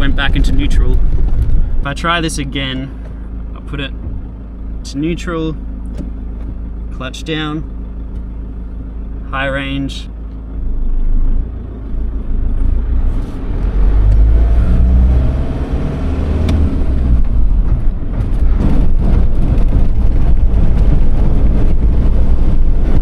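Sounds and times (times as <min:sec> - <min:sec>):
road and wind noise: 0:00.0 - 0:23.0
vehicle engine accelerating: 0:00.0 - 0:23.0.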